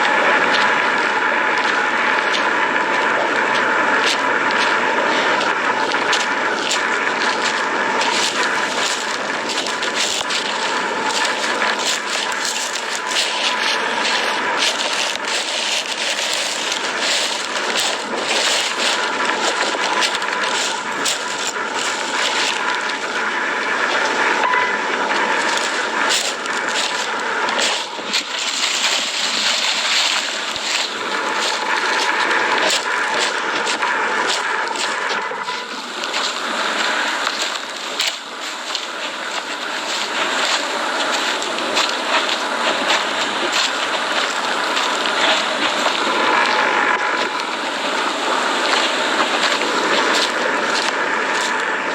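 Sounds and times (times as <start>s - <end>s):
rushing hissing steam with crackles: 0.0s - 51.9s.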